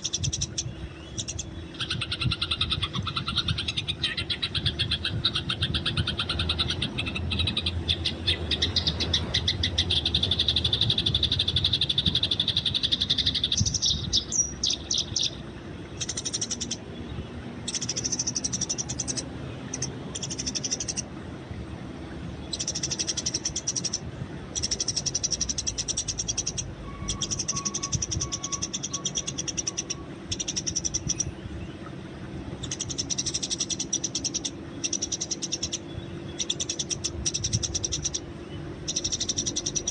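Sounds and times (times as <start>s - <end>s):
sparrows chirping: 0.0s - 21.1s, 22.3s - 31.8s, 32.6s - 39.9s.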